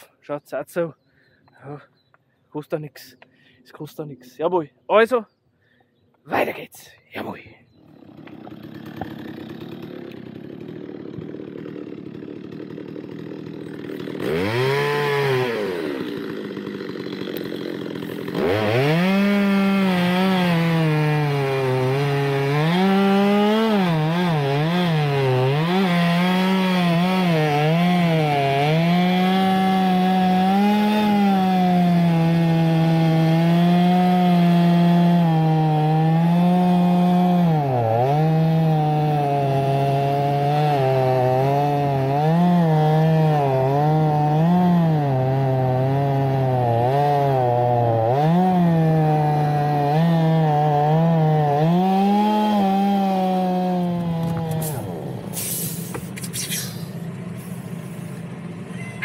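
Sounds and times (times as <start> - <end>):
chainsaw cutting log: 7.8 - 59.0
chainsaw idling and revving: 7.8 - 59.0.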